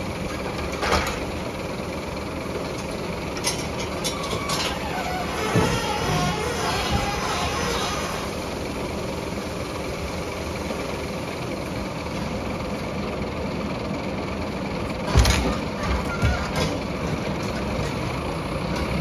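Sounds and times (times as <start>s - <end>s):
hydraulic crane lifting: 0.0s - 12.7s, 14.3s - 19.0s
truck engine running: 0.0s - 19.0s.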